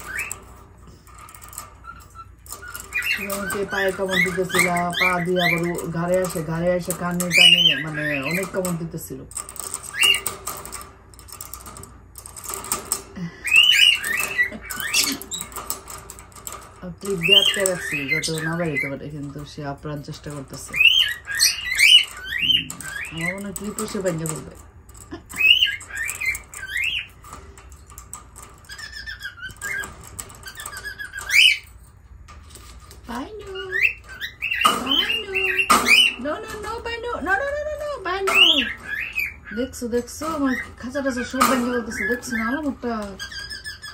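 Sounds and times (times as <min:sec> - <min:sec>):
bird beak rattling cage bars: 0:00.0 - 0:43.9.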